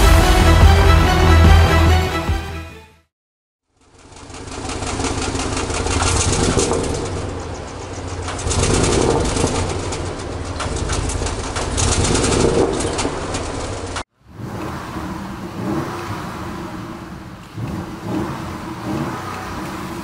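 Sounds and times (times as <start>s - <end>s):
deep rough engine burble: 3.7s - 20.0s.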